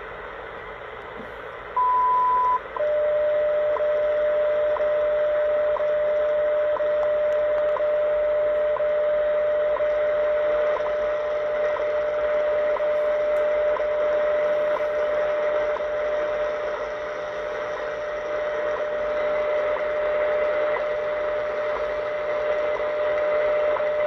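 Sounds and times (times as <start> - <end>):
shortwave static hiss: 0.0 - 24.0
steady radio tone: 1.2 - 24.0.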